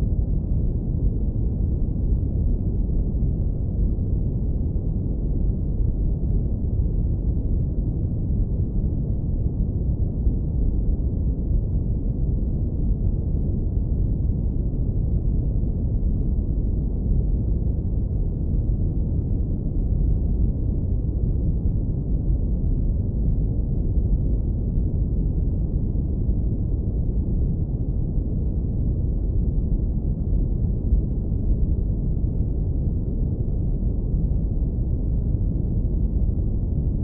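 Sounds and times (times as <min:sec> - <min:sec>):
deep brown noise rumble: 0:00.0 - 0:37.0.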